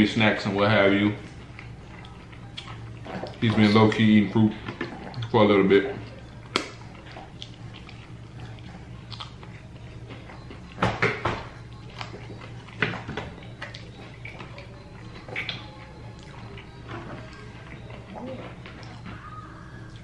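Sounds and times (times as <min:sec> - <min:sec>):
low room hum: 0:00.0 - 0:20.0
chewing with wet mouth smacks: 0:01.0 - 0:20.0.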